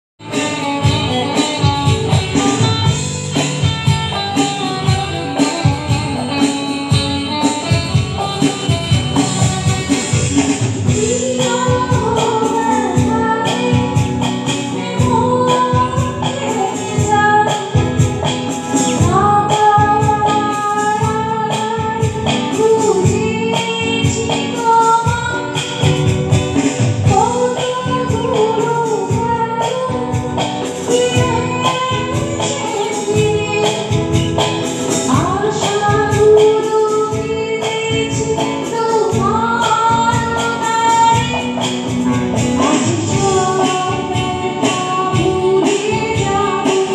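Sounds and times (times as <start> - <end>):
live band music: 0.2 - 46.9
woman singing into a microphone: 0.2 - 46.9.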